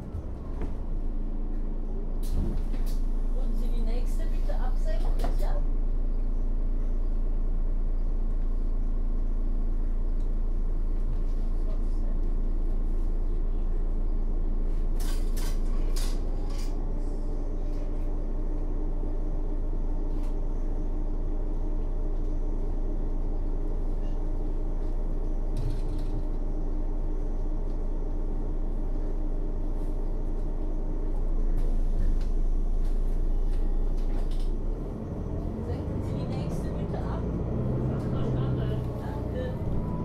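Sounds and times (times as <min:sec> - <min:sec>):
bus engine idling: 0:00.0 - 0:40.0.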